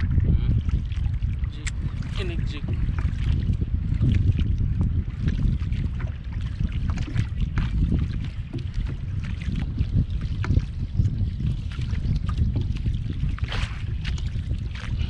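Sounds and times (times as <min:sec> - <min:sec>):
water splashing against boat hull: 0:00.0 - 0:15.0
wind buffeting microphone: 0:00.0 - 0:15.0.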